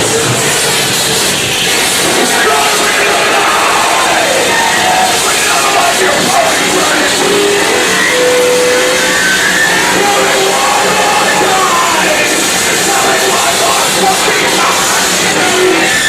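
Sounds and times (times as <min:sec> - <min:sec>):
distorted noise wall: 0:00.0 - 0:16.0.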